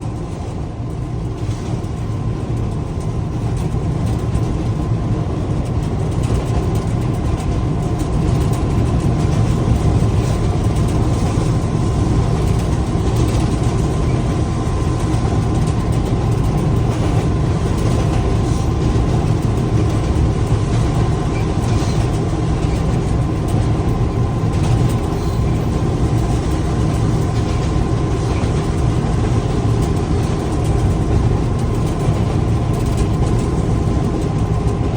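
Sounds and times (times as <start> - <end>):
locomotive engine rumbling: 0.0 - 34.9.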